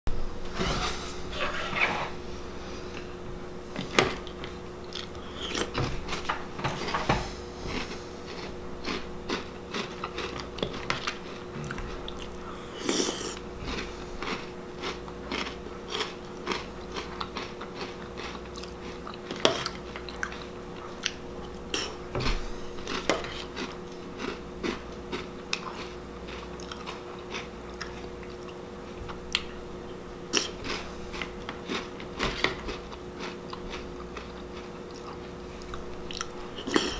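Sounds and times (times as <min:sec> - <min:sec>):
steady low hum: 0:00.1 - 0:36.9
person chewing crunchy cereal: 0:03.7 - 0:36.9.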